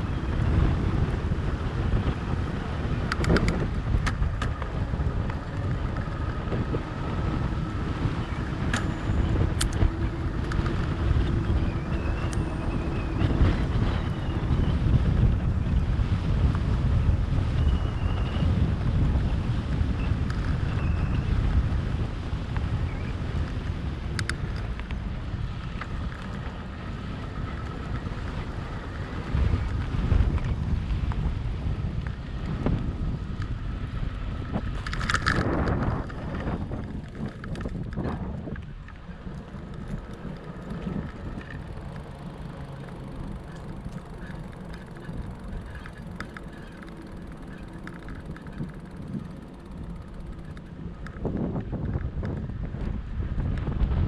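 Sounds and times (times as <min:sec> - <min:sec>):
bike tyres rolling: 0:00.0 - 0:54.0
wind buffeting microphone: 0:00.0 - 0:54.0.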